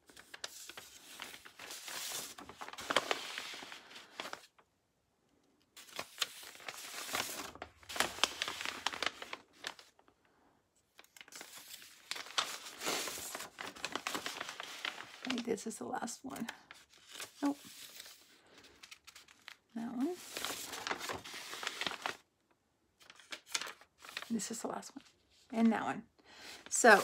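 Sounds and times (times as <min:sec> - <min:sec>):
packaging crinkling and rustling: 0:00.0 - 0:04.6, 0:05.8 - 0:10.2, 0:10.9 - 0:22.3, 0:23.0 - 0:25.4, 0:26.4 - 0:27.0.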